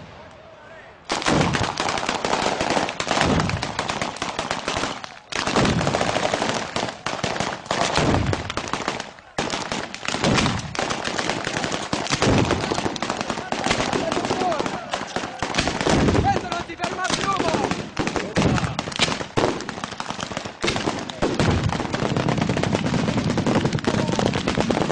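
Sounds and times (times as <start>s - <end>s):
firecrackers crackling: 1.1s - 24.9s
heavy firecracker booms: 1.1s - 24.9s.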